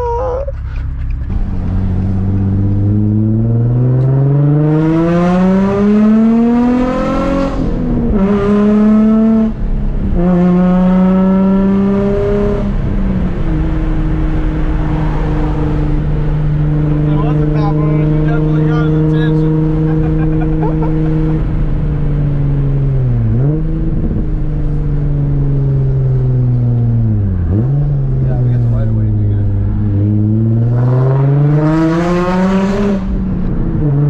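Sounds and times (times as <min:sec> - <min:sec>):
loud car engine accelerating: 0:01.0 - 0:34.0.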